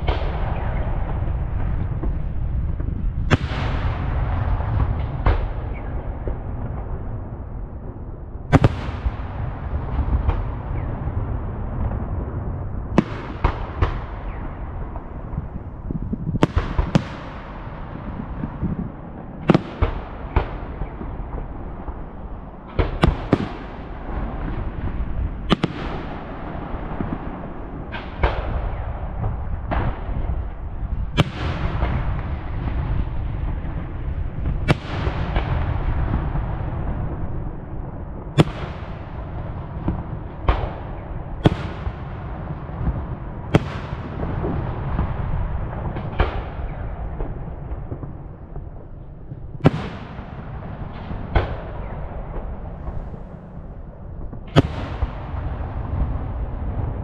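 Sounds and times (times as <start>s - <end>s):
fireworks bursting with echo: 0.0s - 57.0s.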